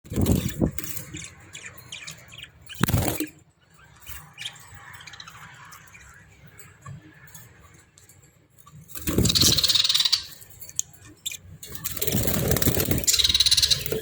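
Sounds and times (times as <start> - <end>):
budgerigars chirping and squawking: 0.1 - 7.8, 9.0 - 14.0.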